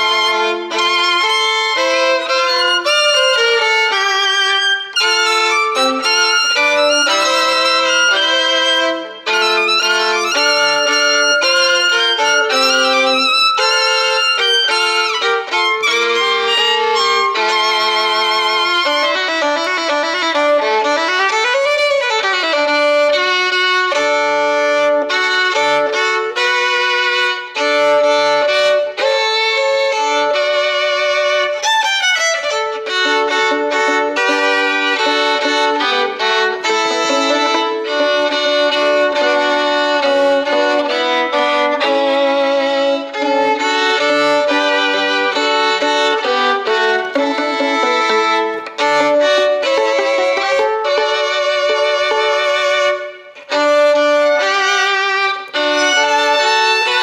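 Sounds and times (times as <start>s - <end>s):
violin melody: 0.0s - 57.0s.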